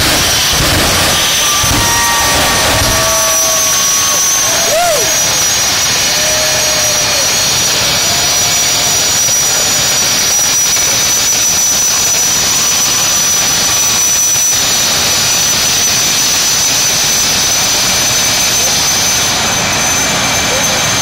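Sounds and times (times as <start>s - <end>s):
high turbine whine: 0.0s - 21.0s
jet engine rush: 0.0s - 21.0s.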